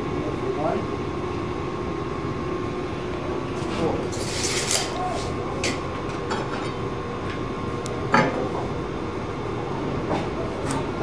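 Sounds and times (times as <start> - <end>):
shop hum and rumble: 0.0 - 11.0.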